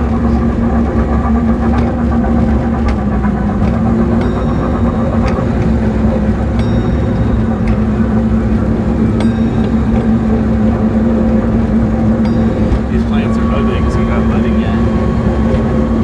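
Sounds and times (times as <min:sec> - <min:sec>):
ride train mechanical rumble: 0:00.0 - 0:16.0.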